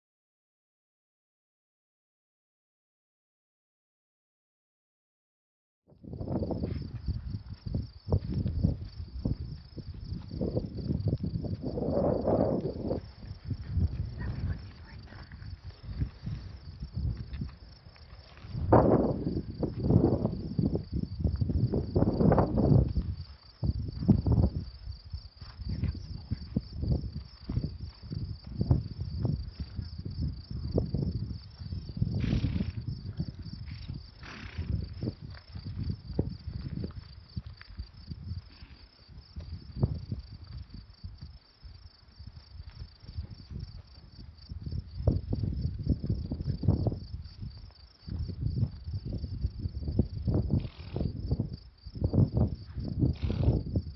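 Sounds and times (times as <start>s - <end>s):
crickets trilling: 6.0s - 53.9s
wind gusts on microphone: 6.0s - 53.9s.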